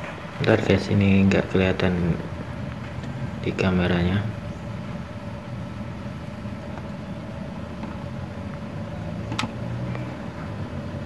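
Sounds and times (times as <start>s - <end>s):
low mechanical rumble: 0.0s - 11.0s
faint steady tones: 0.6s - 11.0s.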